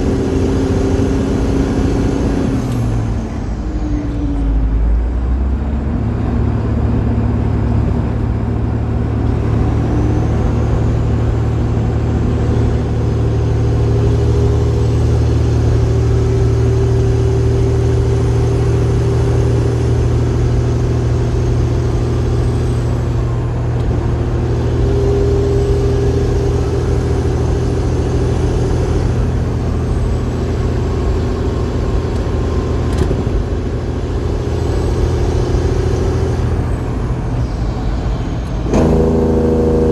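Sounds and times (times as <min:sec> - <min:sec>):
diesel engine deep drone: 0:00.0 - 0:39.9.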